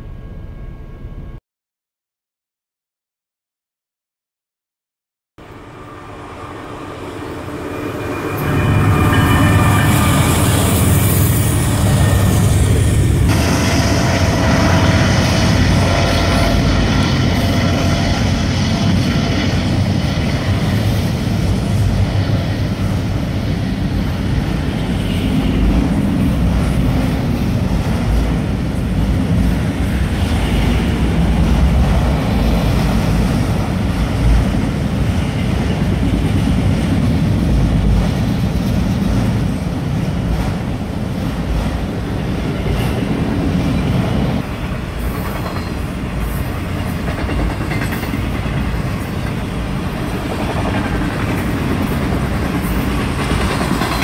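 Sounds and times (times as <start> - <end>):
freight train wheels clattering on rails: 7.4 - 54.0.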